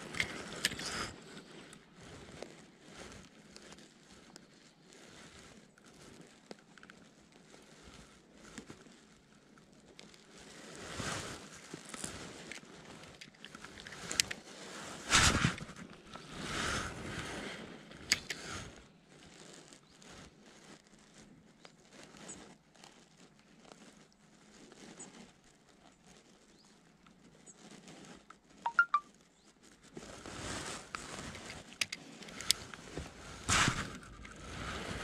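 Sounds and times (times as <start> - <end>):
fishing rod handling rustle: 0.0 - 35.0.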